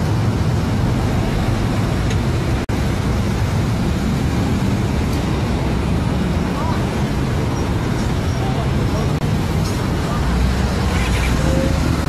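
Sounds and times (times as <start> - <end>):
passing road traffic: 0.0 - 12.0.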